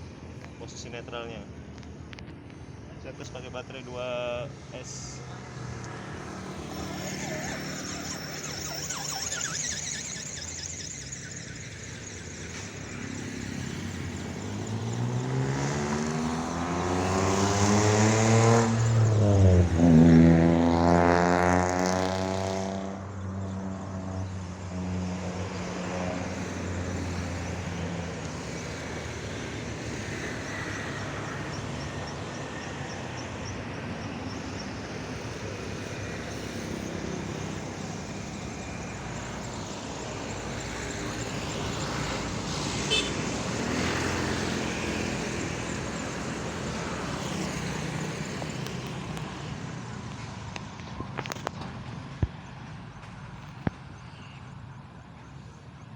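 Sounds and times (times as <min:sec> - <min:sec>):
motor passing by: 0:04.8 - 0:50.0.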